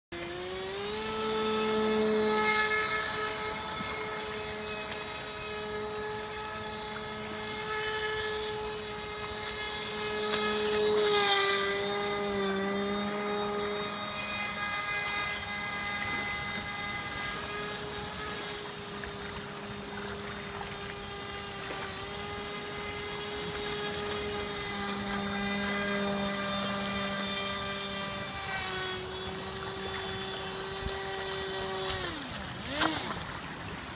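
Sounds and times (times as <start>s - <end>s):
electric motor and propeller whine: 0.0s - 33.9s.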